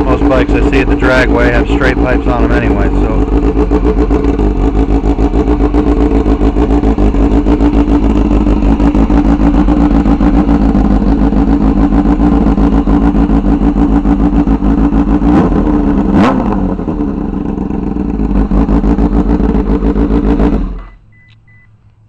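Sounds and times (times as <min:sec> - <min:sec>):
motorcycle engine idling loudly: 0:00.0 - 0:20.9.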